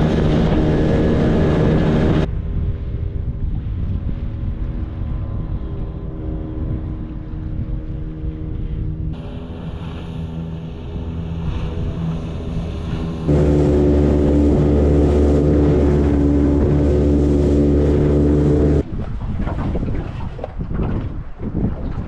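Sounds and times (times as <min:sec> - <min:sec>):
outboard motor running: 0:00.0 - 0:02.3, 0:04.7 - 0:21.8
wind buffeting microphone: 0:00.0 - 0:22.0.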